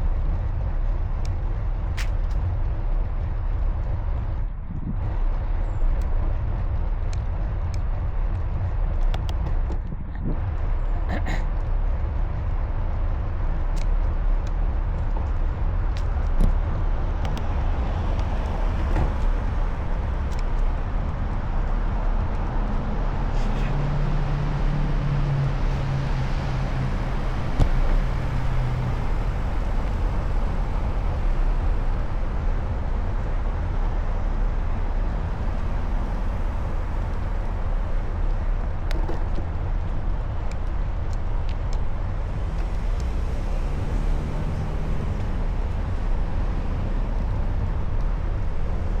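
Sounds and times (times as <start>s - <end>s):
low road rumble: 0.0s - 49.0s
passing vehicle engine hum: 0.0s - 49.0s.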